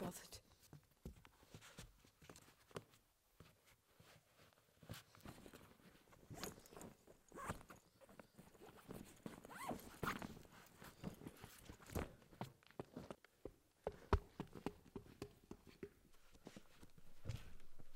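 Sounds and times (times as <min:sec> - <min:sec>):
shoes rustling and knocking: 0:00.7 - 0:17.9.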